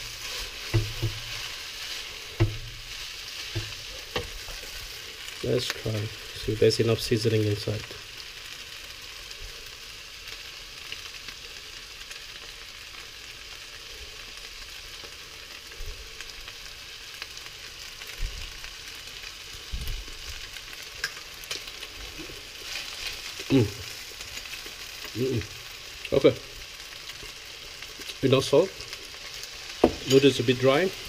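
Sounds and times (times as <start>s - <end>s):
noodles sizzling in a wok: 0.0s - 31.0s.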